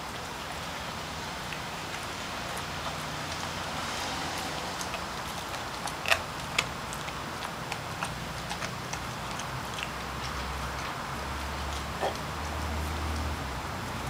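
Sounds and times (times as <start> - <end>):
dog chewing fish: 1.4 - 13.4.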